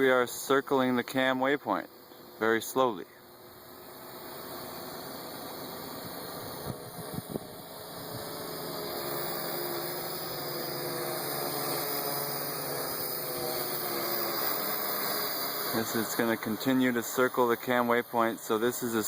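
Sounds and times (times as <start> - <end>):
drone rotors humming: 0.0 - 19.0.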